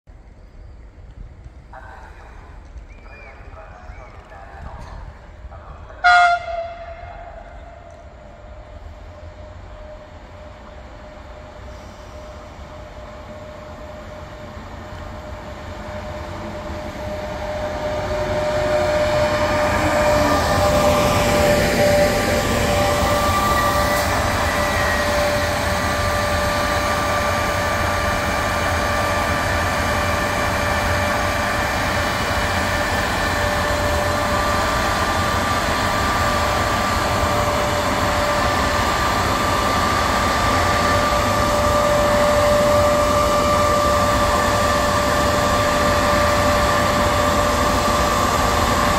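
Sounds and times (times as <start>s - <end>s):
electric locomotive whine: 0.1s - 48.9s
electric train rumble: 0.1s - 48.9s.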